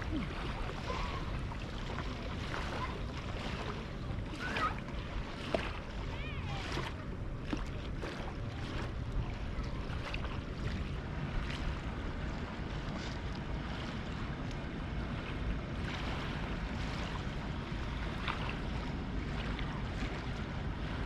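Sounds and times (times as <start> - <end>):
surf washing: 0.0 - 21.0.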